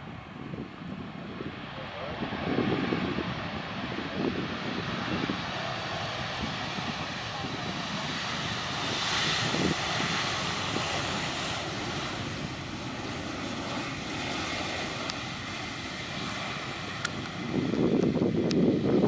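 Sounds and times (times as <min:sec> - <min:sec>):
jet engines rushing: 0:00.0 - 0:19.0.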